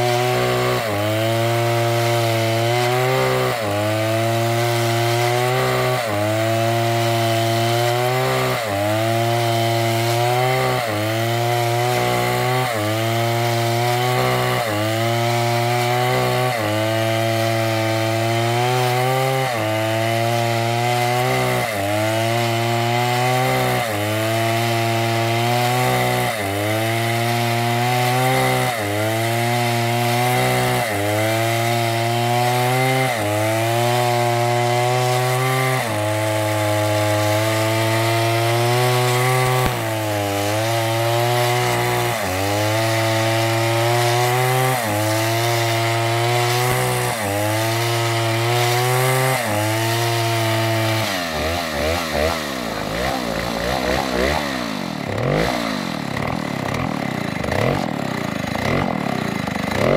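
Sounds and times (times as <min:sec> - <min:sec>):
chainsaw cutting a log: 0:00.0 - 0:59.9.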